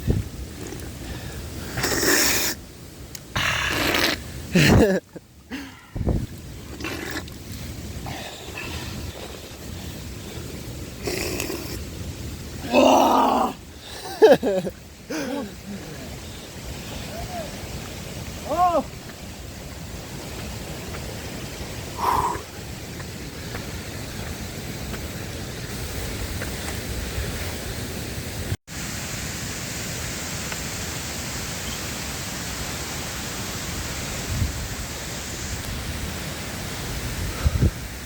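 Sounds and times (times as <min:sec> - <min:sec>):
waterfall rushing: 0:03.3 - 0:38.0.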